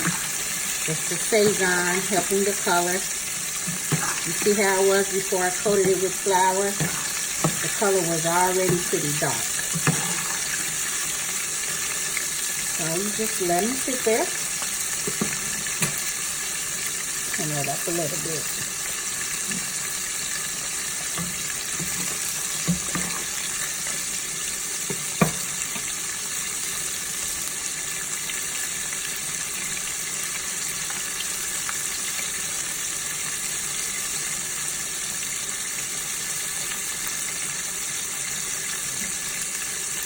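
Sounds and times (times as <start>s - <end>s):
shrimp sizzling in hot oil: 0.0s - 40.0s.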